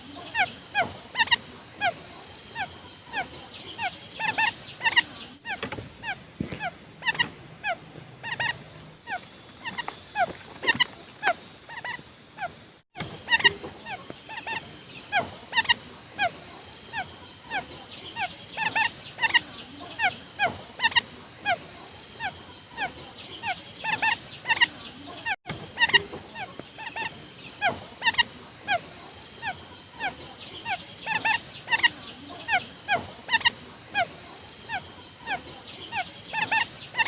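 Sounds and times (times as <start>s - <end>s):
quail calling: 0.0s - 37.0s.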